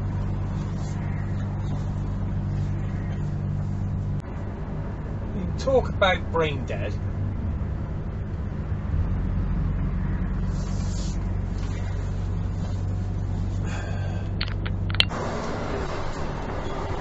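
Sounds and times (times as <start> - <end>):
engine hum: 0.0 - 17.0
tyre road noise: 0.0 - 17.0.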